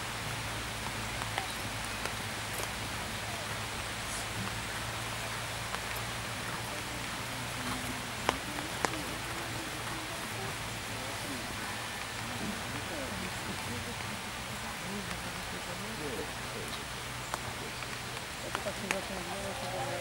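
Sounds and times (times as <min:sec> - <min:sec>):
low steady hum: 0:00.0 - 0:20.0
rain hiss: 0:00.0 - 0:20.0.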